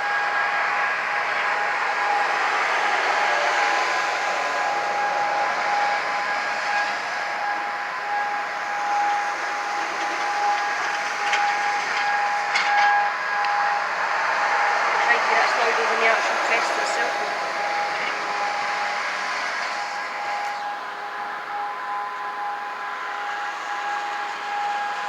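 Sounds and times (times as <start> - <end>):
distant siren steady tone: 0.0 - 25.0
road traffic hiss: 0.0 - 25.0.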